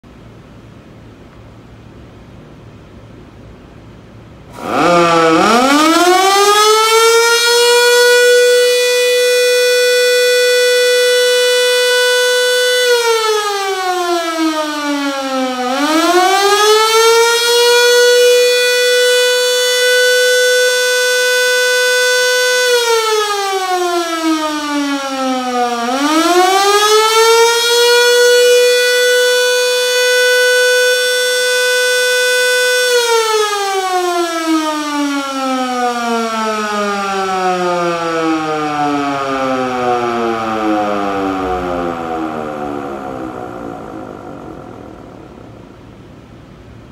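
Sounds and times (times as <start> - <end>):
siren winding up and down: 4.6 - 45.8.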